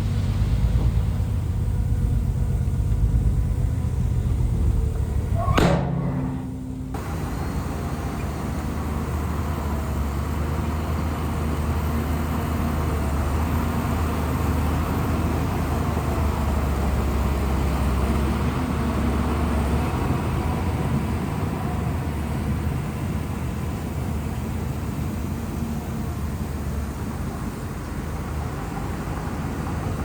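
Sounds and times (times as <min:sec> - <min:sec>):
bulldozer diesel engine humming: 0:00.0 - 0:30.0.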